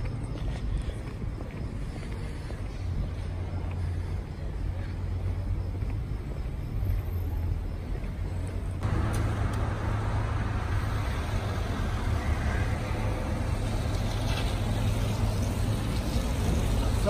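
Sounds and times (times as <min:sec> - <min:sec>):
cars driving past slowly: 0:00.0 - 0:17.0.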